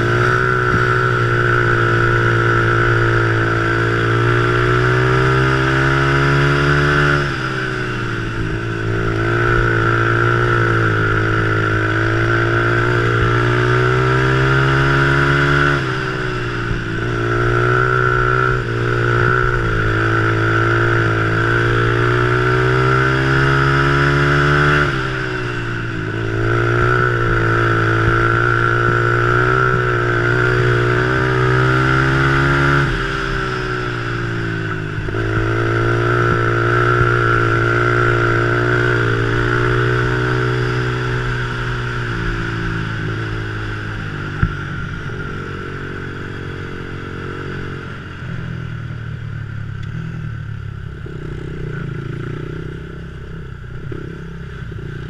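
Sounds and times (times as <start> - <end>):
small engine revving: 0.0 - 48.4.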